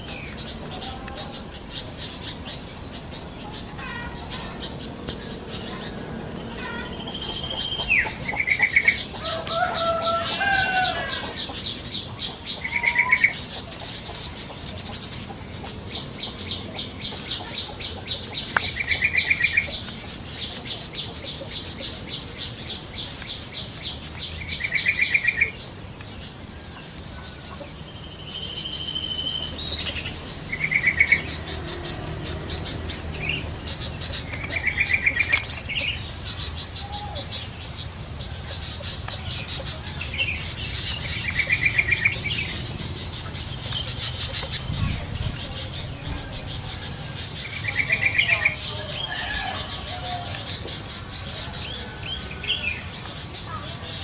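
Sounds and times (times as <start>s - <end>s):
bulbuls calling bubbly phrases: 0.0s - 25.8s, 27.0s - 54.0s
birdsong: 0.0s - 54.0s.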